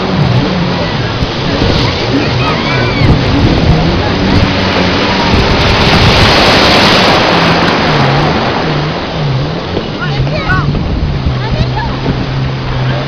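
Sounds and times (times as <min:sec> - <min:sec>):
low motor hum: 0:00.0 - 0:13.0
sea water rushing: 0:00.0 - 0:13.0
wind on microphone: 0:00.0 - 0:13.0.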